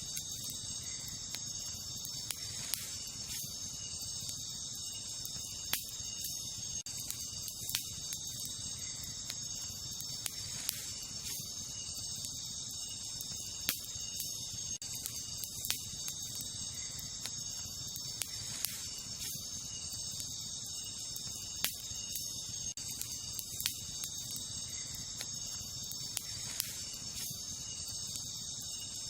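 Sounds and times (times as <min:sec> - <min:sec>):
campfire crackling: 0:00.0 - 0:29.0
crickets and night insects chirping: 0:00.0 - 0:29.0.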